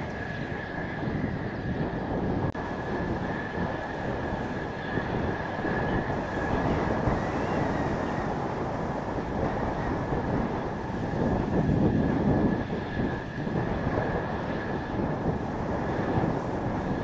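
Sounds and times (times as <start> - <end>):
jet engine whine: 0.0 - 17.0
wind buffeting microphone: 0.0 - 17.0.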